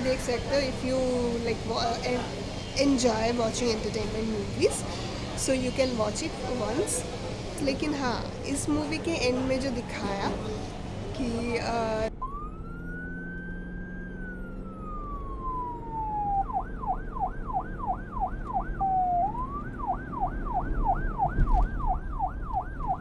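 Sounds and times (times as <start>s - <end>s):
emergency siren wailing and yelping: 0.0s - 23.0s.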